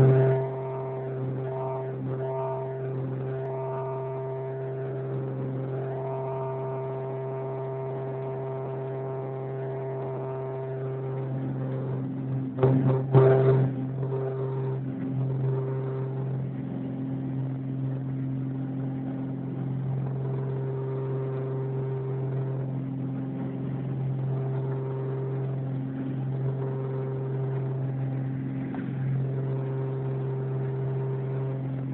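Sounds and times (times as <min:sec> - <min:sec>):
propeller plane engine drone: 0:00.0 - 0:31.9.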